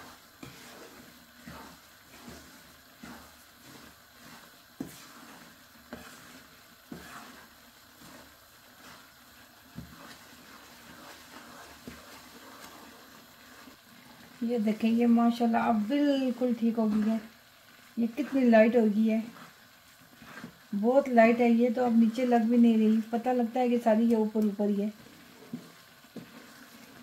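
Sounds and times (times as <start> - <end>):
faint sizzle: 0.0 - 27.0
wooden spoon scraping a pan: 0.0 - 27.0.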